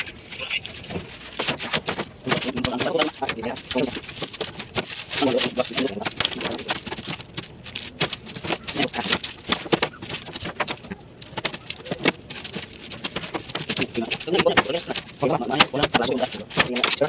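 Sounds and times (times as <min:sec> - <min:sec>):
knife slicing pineapple rind: 0:01.0 - 0:17.0.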